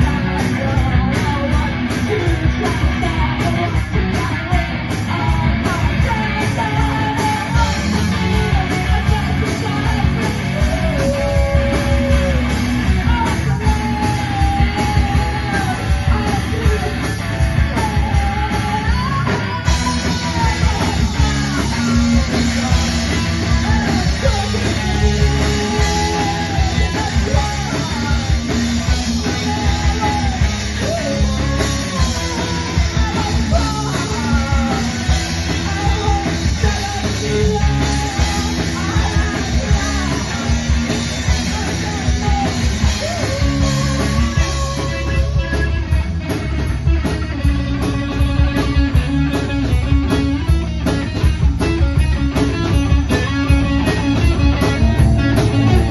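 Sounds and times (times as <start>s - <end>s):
person singing: 0.0s - 46.5s
rock band playing live: 0.0s - 55.9s.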